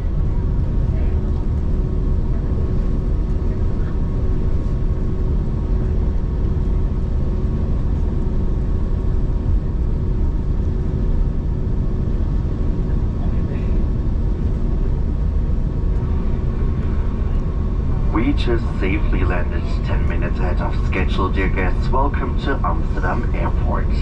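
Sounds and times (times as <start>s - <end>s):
airplane cabin rumble: 0.0s - 24.0s
jet engine hum: 0.0s - 24.0s.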